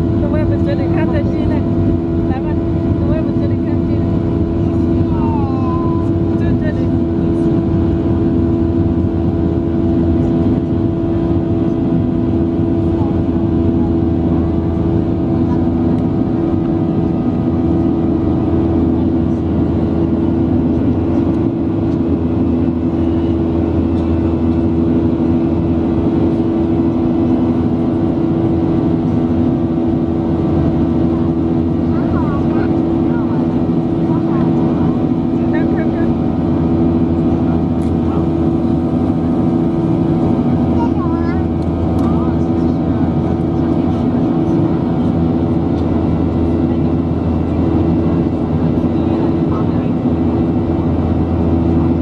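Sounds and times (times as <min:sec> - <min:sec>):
jet engines droning in cabin: 0:00.0 - 0:52.0
multi-tone hum: 0:00.0 - 0:52.0.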